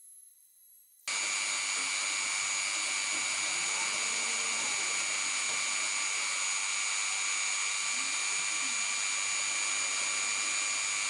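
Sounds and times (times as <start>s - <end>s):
rotary tool high-pitched whine: 1.0s - 11.0s
hiss: 1.1s - 11.0s.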